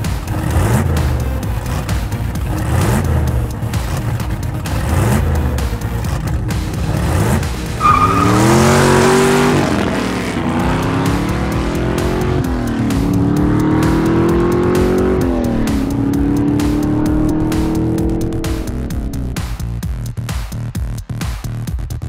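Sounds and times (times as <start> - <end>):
sports car engine accelerating: 0.0 - 19.8.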